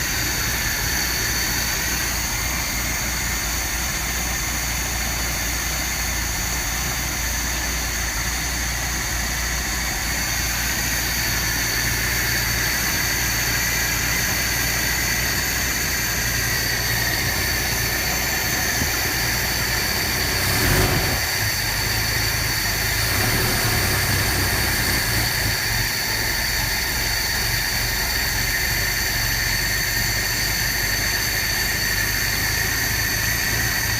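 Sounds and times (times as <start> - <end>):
engine idling roughly: 0.0 - 33.9.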